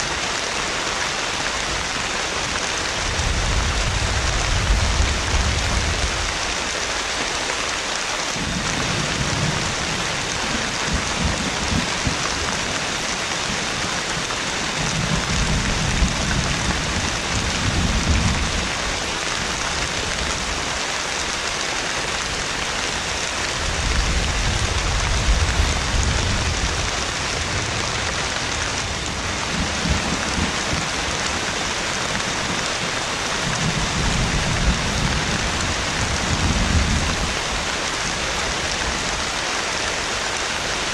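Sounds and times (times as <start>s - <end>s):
heavy rain falling: 0.0s - 40.9s
low thunder rumbling: 2.8s - 6.6s, 8.4s - 20.8s, 22.2s - 39.3s.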